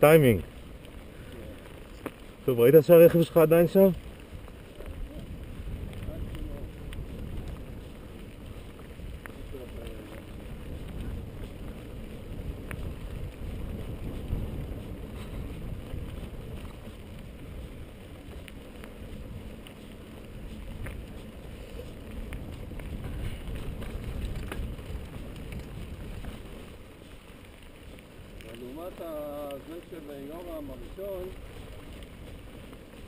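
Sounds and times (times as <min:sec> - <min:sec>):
bike clicks and rattles: 0:00.0 - 0:33.0
wind noise on microphone: 0:03.2 - 0:33.0.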